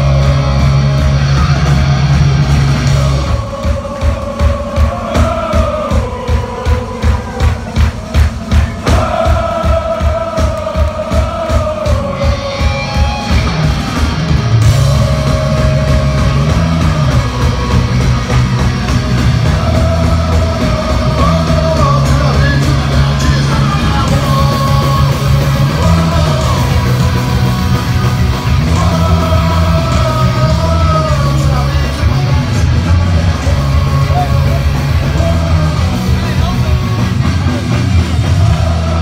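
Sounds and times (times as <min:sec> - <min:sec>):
punk rock band playing live: 0:00.0 - 0:39.0
voices singing held notes: 0:00.0 - 0:39.0.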